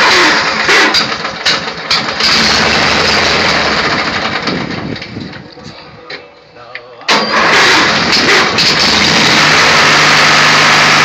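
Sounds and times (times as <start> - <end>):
lawn mower engine running: 0.0 - 5.5, 7.1 - 11.0.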